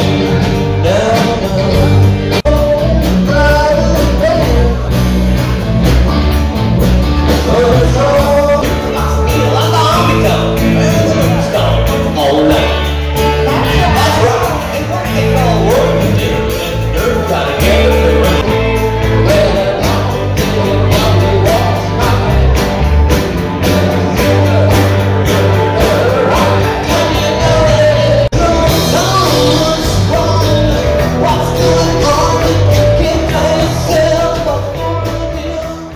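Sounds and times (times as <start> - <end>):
person singing: 0.0 - 5.1, 7.2 - 35.9
bass guitar: 0.0 - 35.9
drum kit beat: 0.0 - 35.9
guitars playing: 0.0 - 35.9.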